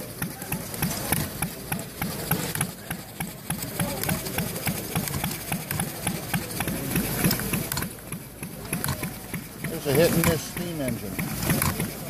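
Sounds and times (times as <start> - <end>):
small gas engine exhaust beat: 0.0 - 12.0
valve gear clicking: 0.0 - 12.0.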